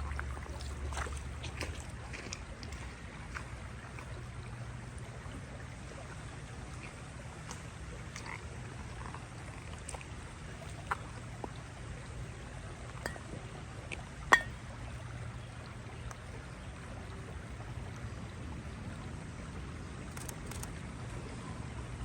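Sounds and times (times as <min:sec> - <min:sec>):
outdoor nature ambience: 0:00.0 - 0:22.0.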